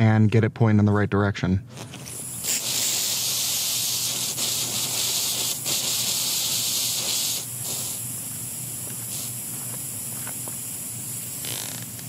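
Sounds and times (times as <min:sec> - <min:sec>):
sprinkler water hiss: 0:02.2 - 0:12.0.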